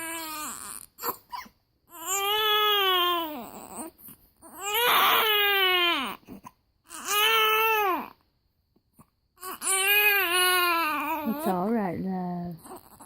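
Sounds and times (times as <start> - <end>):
baby crying: 0.0 - 8.2, 9.4 - 11.7, 12.6 - 13.0.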